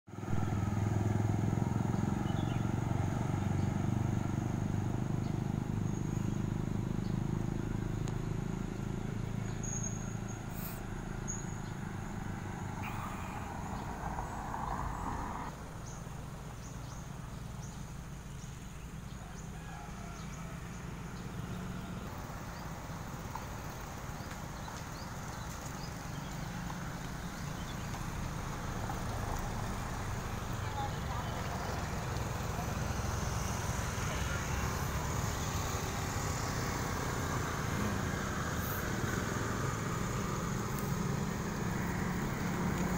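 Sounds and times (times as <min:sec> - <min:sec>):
motorbike and car traffic rumble: 0:00.1 - 0:42.9.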